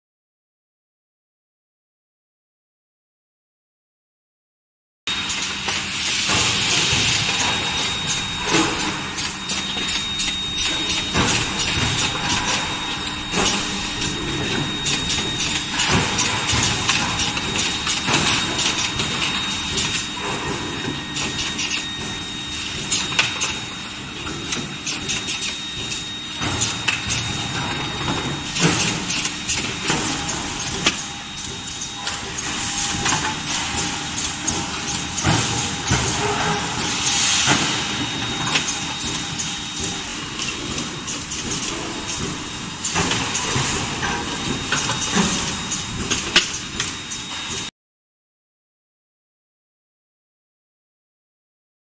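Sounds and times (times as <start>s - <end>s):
machine hum: 5.1s - 47.3s
high-pitched whine: 5.1s - 47.7s.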